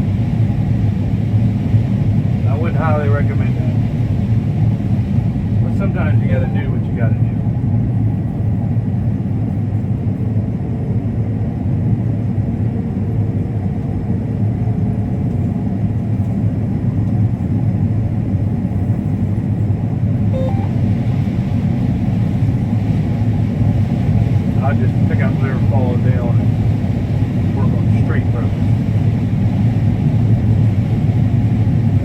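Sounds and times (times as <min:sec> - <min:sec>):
combine harvester drone: 0:00.0 - 0:32.0.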